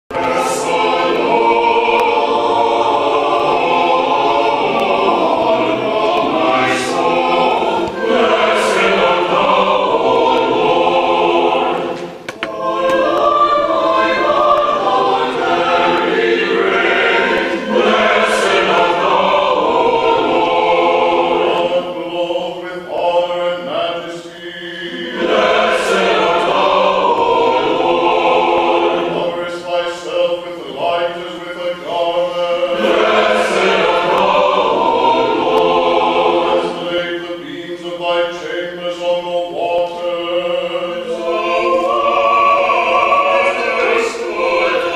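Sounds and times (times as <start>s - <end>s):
choir singing: 0.1s - 44.9s.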